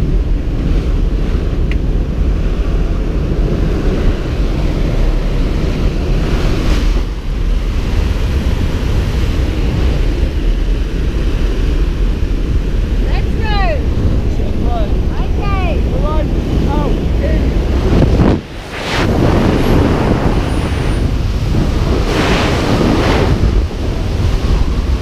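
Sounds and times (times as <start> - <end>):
aircraft engine noise: 0.0 - 25.0
wind buffeting microphone: 0.0 - 25.0
wind rushing: 0.0 - 25.0.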